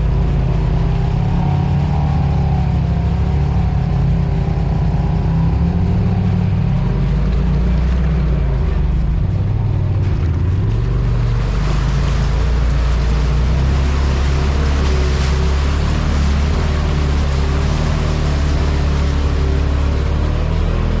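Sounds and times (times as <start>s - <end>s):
tyre ground noise: 0.0s - 21.0s
vehicle engine running: 0.0s - 21.0s
wind: 0.0s - 21.0s.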